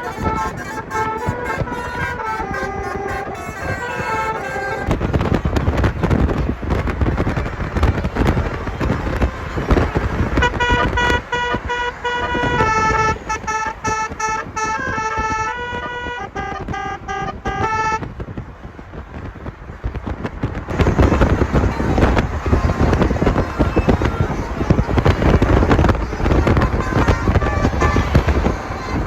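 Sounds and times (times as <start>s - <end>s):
loud rough noise: 0.0s - 14.7s, 19.9s - 29.0s
musical car horn tune: 0.0s - 18.0s, 20.7s - 29.0s.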